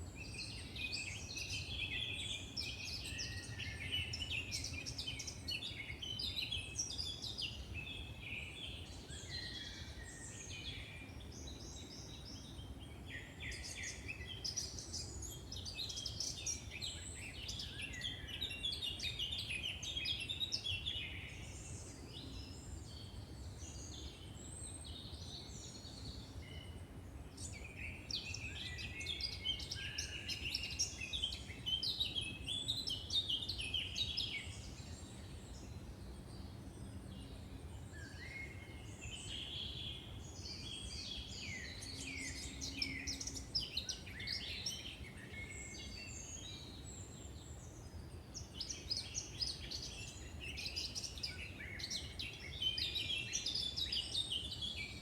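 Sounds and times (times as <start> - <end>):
low background noise: 0.0 - 55.0
songbirds chirping: 0.0 - 55.0.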